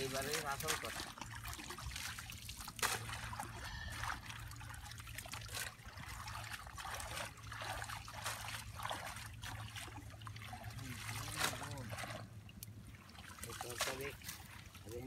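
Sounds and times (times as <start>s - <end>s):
river water splashing: 0.0s - 15.0s
steady low hum: 0.0s - 15.0s.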